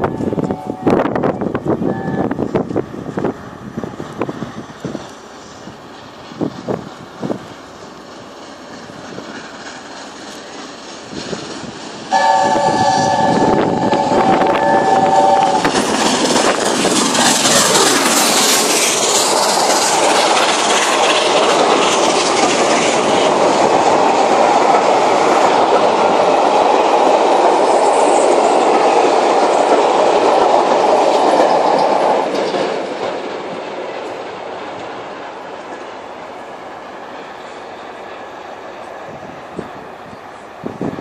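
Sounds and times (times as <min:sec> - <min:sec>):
steam locomotive passing: 0:00.0 - 0:41.0
train wheels running on rails: 0:00.0 - 0:41.0.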